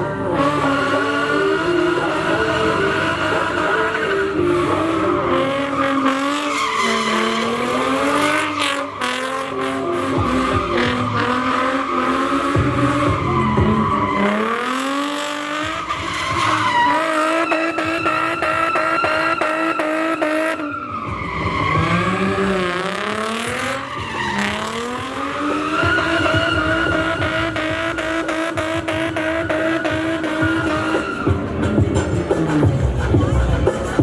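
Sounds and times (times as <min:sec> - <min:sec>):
car engine revving at limiter: 0:00.0 - 0:34.0
tyre squeal: 0:00.4 - 0:31.7.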